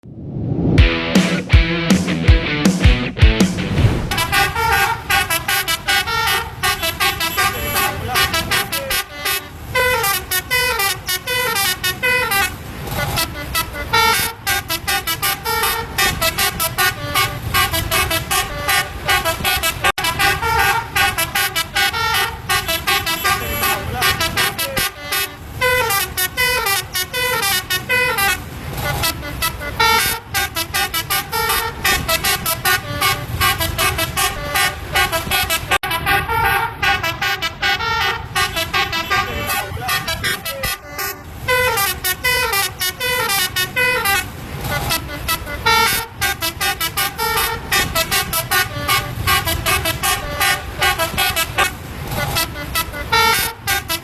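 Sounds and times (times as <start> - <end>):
multi-tone air horns playing tune: 4.1 - 54.0.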